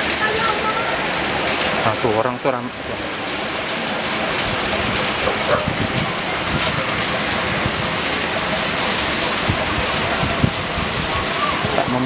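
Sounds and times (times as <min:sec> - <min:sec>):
raindrops tapping nearby: 0:00.0 - 0:12.0
steady rain hiss: 0:00.0 - 0:12.0.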